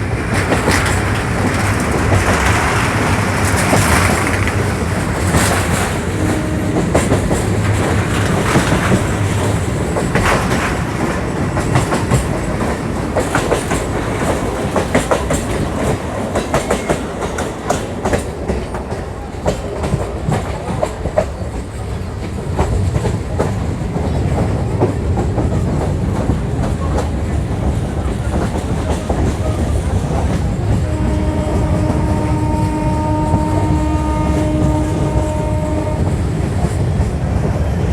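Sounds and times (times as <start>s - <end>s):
wheels clacking over rail joints: 0.0s - 37.6s
train rumble: 0.0s - 37.9s.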